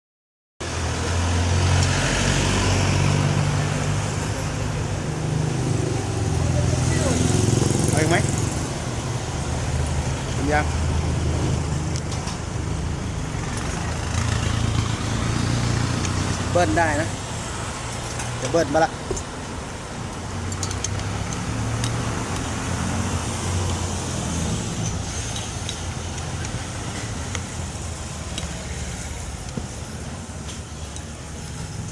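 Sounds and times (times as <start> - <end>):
road traffic noise: 0.6 - 31.9
vehicle engine humming: 0.7 - 31.9.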